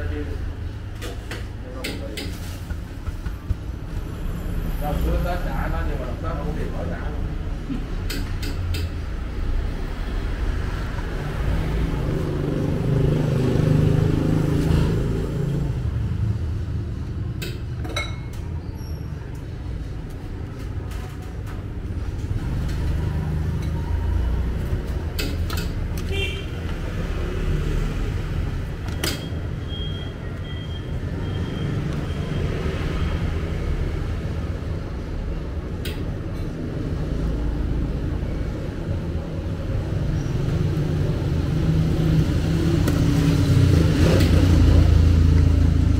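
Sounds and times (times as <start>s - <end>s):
street traffic rumble: 0.0s - 45.9s.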